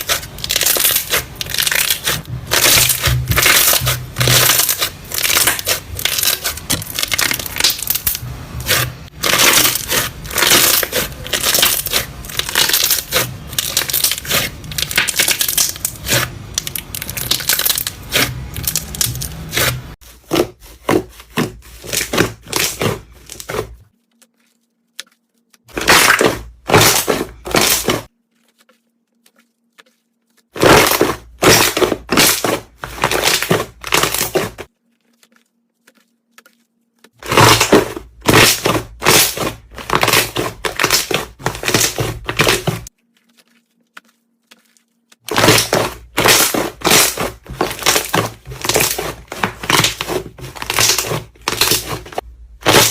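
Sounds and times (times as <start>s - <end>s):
slime crackling and popping: 0.0s - 20.0s, 21.3s - 28.7s, 29.8s - 36.6s, 37.2s - 52.9s.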